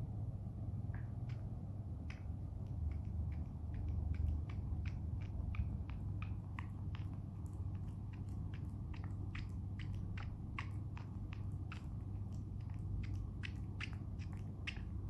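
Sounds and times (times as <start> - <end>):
puppy suckling mouth clicks: 0.9 - 15.0.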